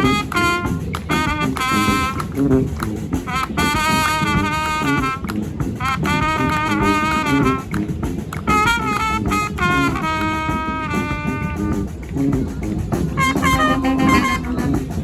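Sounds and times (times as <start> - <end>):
brass horns playing held notes: 0.0 - 15.0
drums and percussion: 0.0 - 15.0.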